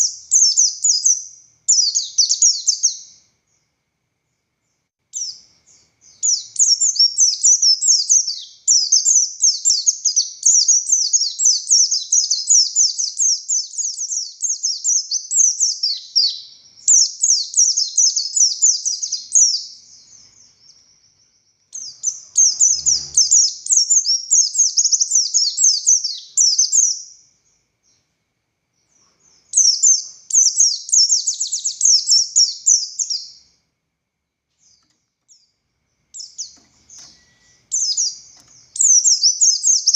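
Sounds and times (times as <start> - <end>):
bird twittering song: 0.0 - 28.1, 28.7 - 33.6, 34.5 - 39.9.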